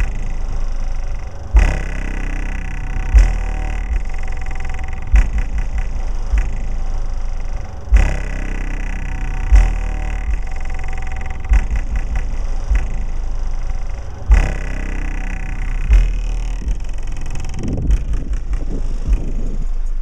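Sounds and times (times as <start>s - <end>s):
subwoofer deep bass: 0.0s - 20.0s.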